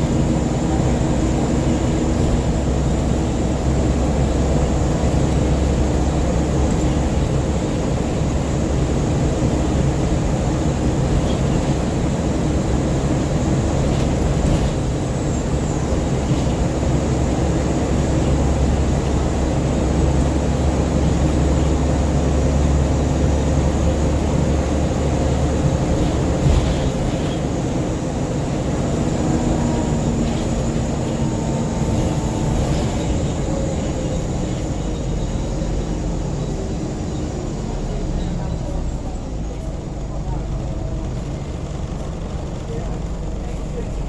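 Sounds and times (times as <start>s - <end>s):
bus diesel engine drone: 0.0s - 44.0s
road noise: 0.0s - 44.0s.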